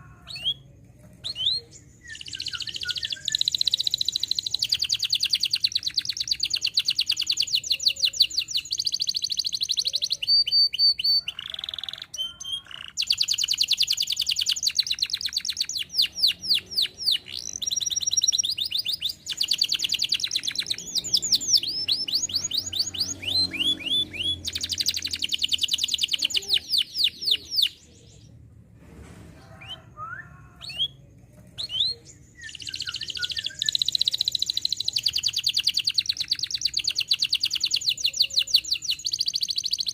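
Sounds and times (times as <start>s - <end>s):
canary trilling: 0.0s - 28.2s, 31.6s - 39.9s
bird chirps: 0.0s - 28.4s, 29.6s - 39.9s.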